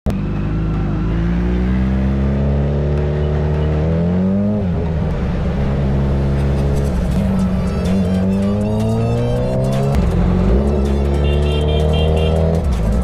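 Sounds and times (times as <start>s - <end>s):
motorcycle engine accelerating: 0.1s - 13.0s.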